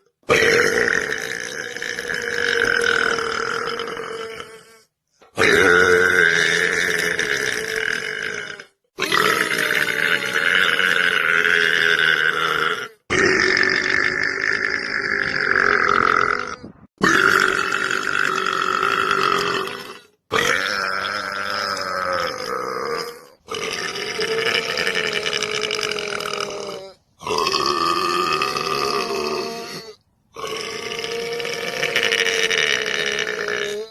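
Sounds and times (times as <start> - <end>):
man belching: 0.0 - 33.9.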